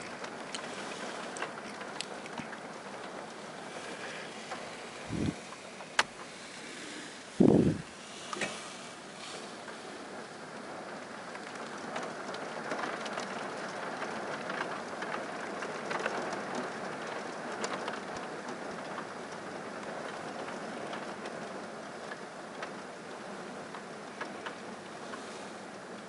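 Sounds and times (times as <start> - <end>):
rain falling: 0.0 - 26.0
raindrops hitting a surface: 0.0 - 26.0.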